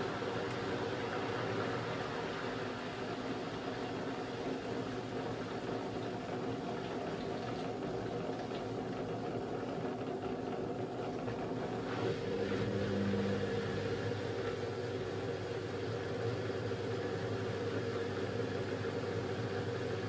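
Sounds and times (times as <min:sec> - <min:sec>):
washing machine motor hum: 0:00.0 - 0:20.0
water sloshing in washing machine: 0:00.0 - 0:20.0.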